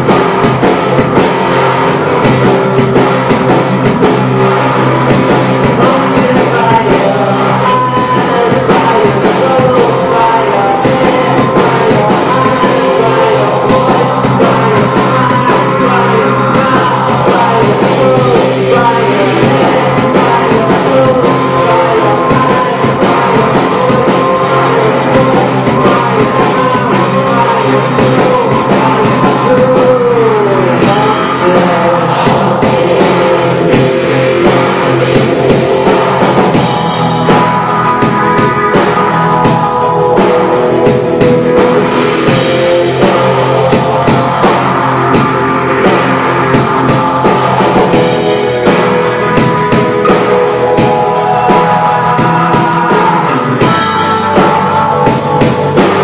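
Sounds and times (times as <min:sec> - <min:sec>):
bass guitar: 0:00.0 - 0:56.0
drums: 0:00.0 - 0:56.0
electric guitars: 0:00.0 - 0:56.0
person singing: 0:00.0 - 0:56.0.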